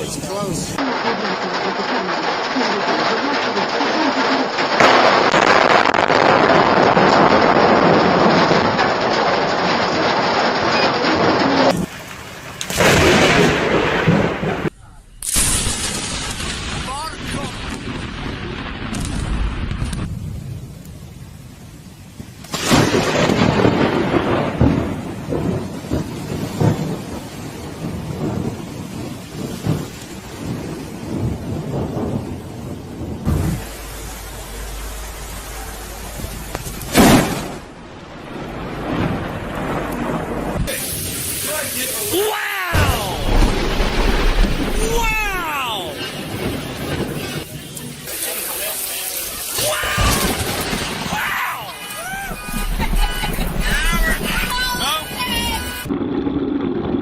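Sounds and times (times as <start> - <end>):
thunderstorm rushing roar: 0.0 - 14.7, 15.6 - 48.1, 49.4 - 57.0
rain falling: 0.0 - 57.0.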